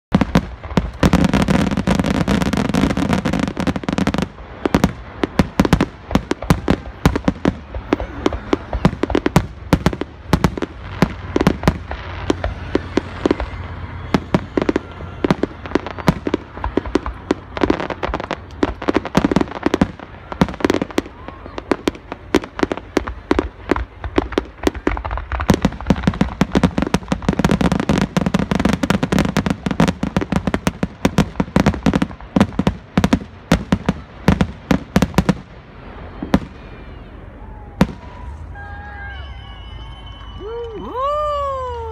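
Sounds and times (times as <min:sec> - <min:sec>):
fireworks bangs and crackles: 0:00.1 - 0:41.9.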